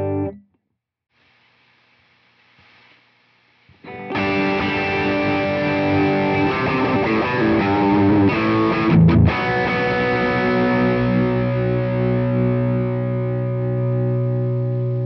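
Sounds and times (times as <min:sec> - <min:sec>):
distorted electric guitar: 0:00.0 - 0:00.4, 0:01.2 - 0:15.0.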